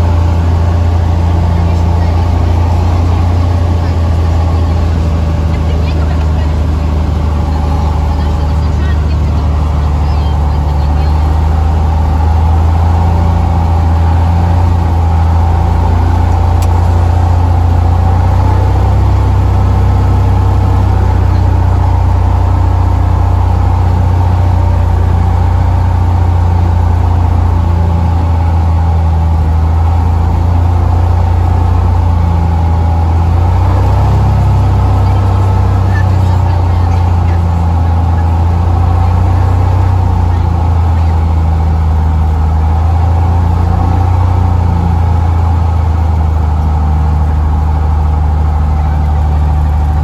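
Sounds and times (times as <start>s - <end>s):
propeller plane engine droning: 0.0s - 50.0s.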